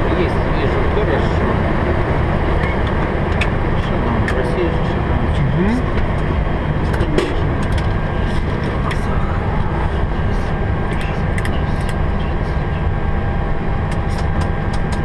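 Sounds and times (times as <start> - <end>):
aircraft engines rumbling: 0.0 - 15.0.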